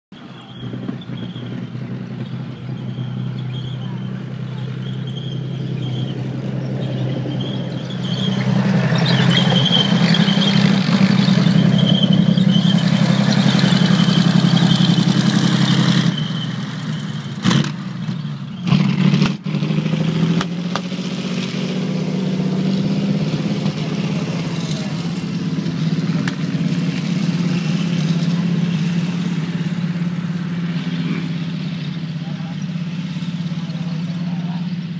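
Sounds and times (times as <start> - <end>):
tank engine running: 0.1 - 34.9.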